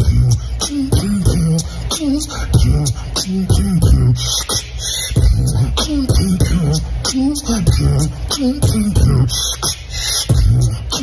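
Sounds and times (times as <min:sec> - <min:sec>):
person beatboxing: 0:00.0 - 0:11.0
sliding beatboxed bass tones: 0:00.0 - 0:11.0.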